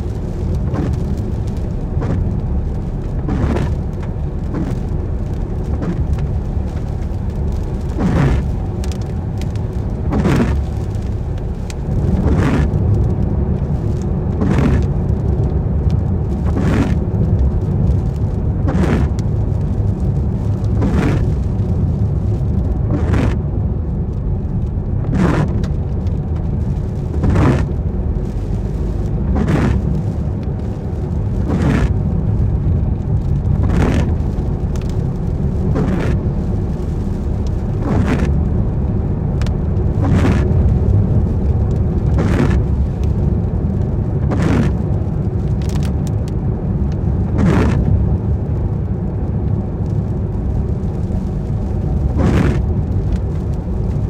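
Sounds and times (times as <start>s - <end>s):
rain on car: 0.0s - 54.0s
road and engine rumble: 0.0s - 54.0s
windscreen wiper swishing: 0.0s - 54.0s.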